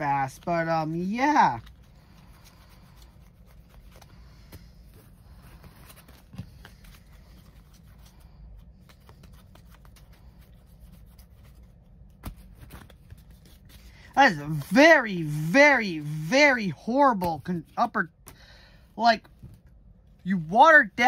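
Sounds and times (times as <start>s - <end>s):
trading cards rustling: 0.0s - 21.0s.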